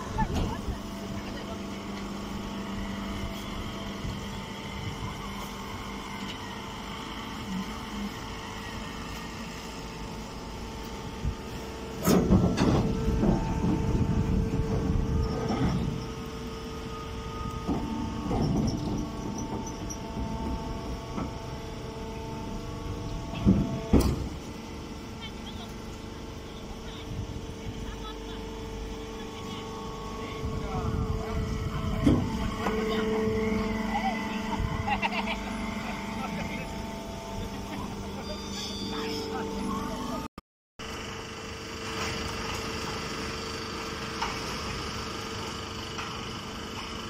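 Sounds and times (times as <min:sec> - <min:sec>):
baling press humming: 0:00.0 - 0:40.3.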